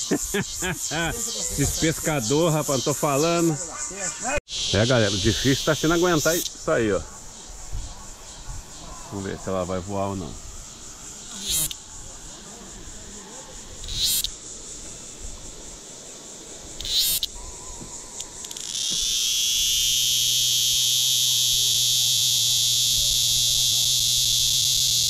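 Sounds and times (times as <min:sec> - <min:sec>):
cicada buzzing: 0:00.0 - 0:25.0.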